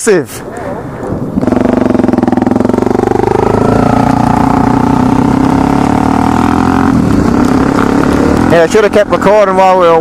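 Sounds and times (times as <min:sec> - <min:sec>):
dirt bike engine running: 0:01.4 - 0:10.0.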